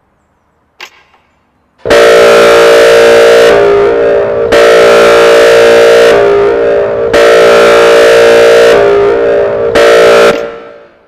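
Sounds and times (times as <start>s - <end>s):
electronic warning siren: 1.8s - 11.0s.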